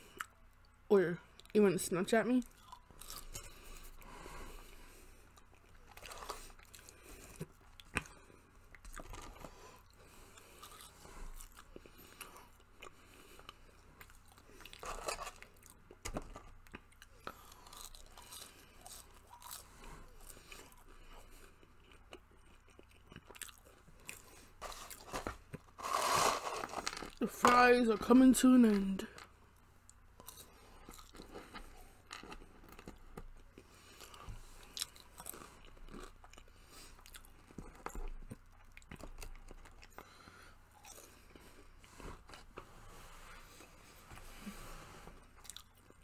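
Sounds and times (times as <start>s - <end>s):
chewing french fries: 2.4s - 25.7s, 29.1s - 42.6s, 45.2s - 46.0s.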